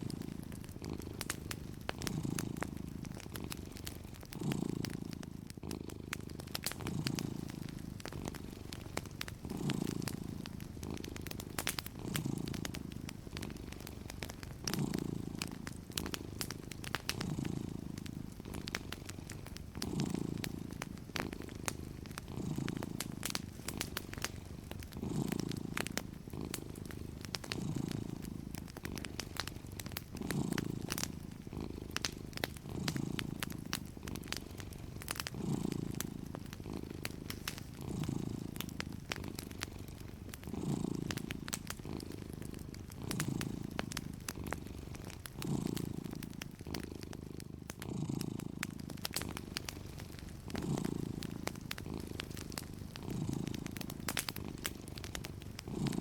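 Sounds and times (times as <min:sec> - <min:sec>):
cat purring: 0:00.0 - 0:56.0
wood fire crackling: 0:00.0 - 0:56.0.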